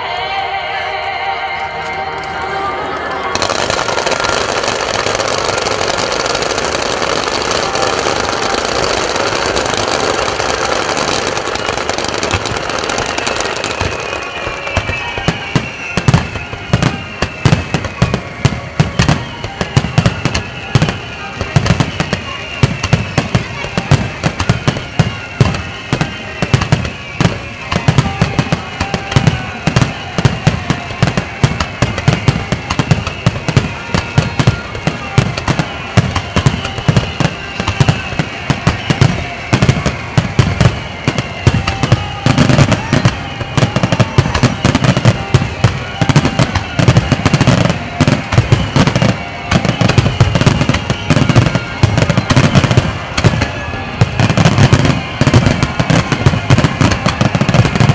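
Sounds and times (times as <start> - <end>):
music: 0.0 - 57.9
fireworks bursting: 2.2 - 57.9.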